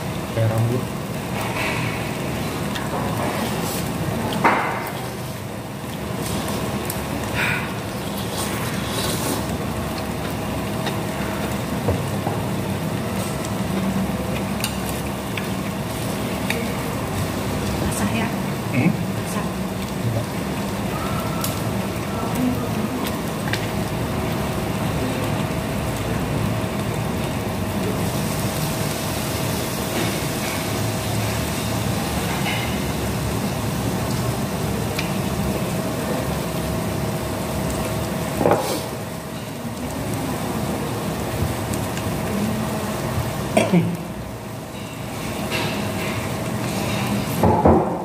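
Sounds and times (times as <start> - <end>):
meat sizzling on a grill pan: 0.0 - 47.6.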